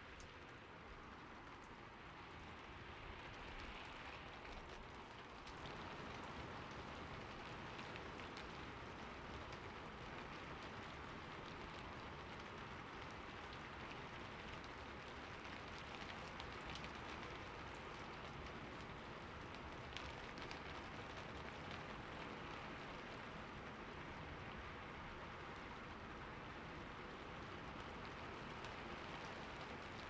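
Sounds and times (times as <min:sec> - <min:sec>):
rain on a roof: 0:00.0 - 0:30.0.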